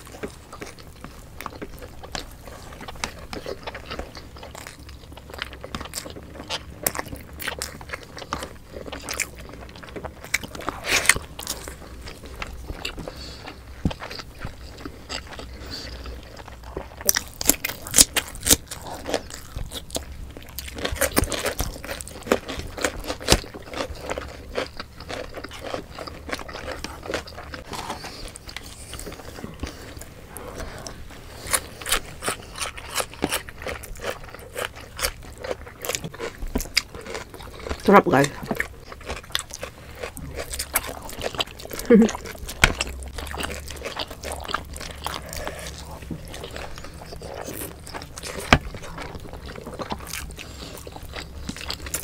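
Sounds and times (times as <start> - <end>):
people chewing food: 0.0 - 52.0.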